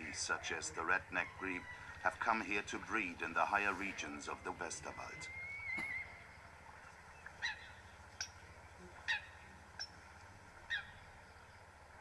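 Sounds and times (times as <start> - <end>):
waterbird calling: 0.0 - 12.0.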